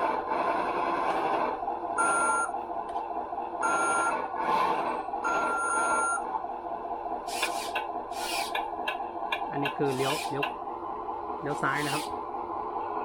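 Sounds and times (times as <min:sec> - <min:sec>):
simulated diesel engine through speaker: 0:00.0 - 0:13.0.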